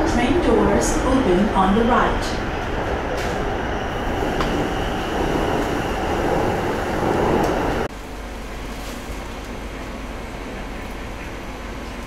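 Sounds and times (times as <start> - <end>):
hum of standing train: 0.0 - 12.0
metro train rumble and hiss: 0.0 - 12.0.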